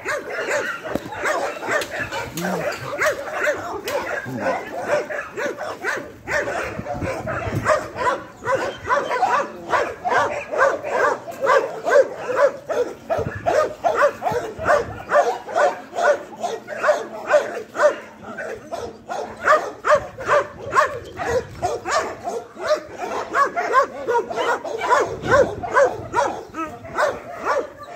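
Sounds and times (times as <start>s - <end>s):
dogs barking: 0.0s - 27.9s.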